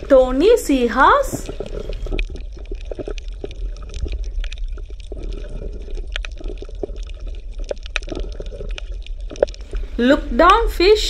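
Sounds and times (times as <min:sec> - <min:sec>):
underwater gurgling water: 0:00.0 - 0:11.0.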